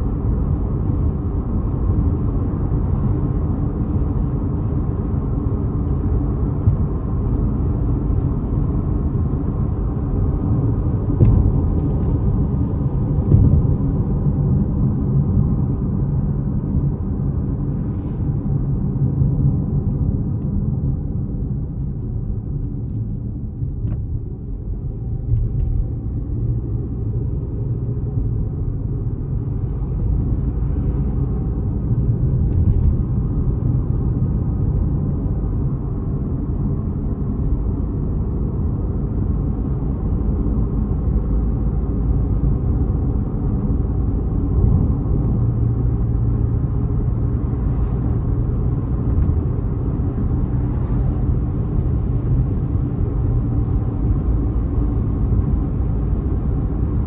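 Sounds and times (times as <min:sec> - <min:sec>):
car road rumble: 0:00.0 - 0:57.0.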